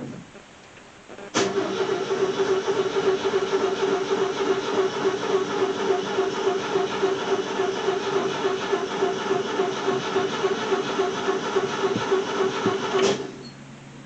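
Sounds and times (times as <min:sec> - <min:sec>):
starter motor cranking engine: 0:01.3 - 0:13.5.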